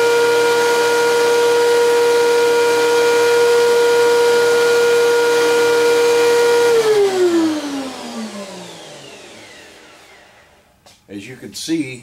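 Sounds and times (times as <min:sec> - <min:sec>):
motor spinning down: 0:00.0 - 0:10.8
planer whine: 0:00.0 - 0:11.0.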